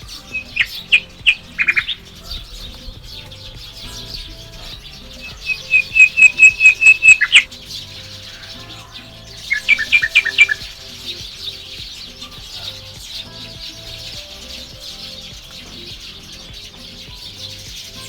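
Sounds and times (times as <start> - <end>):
bird repeating clear notes: 0.0 - 18.0
small birds chirping: 0.0 - 18.0.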